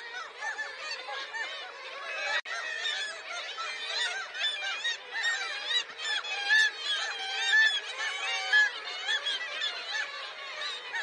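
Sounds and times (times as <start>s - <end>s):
seabird colony calling: 0.0s - 11.0s.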